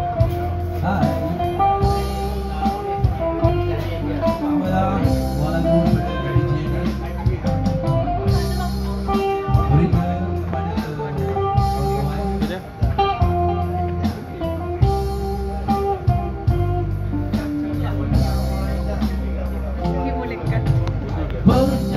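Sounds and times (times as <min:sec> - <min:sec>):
live band music through pa: 0:00.0 - 0:21.9.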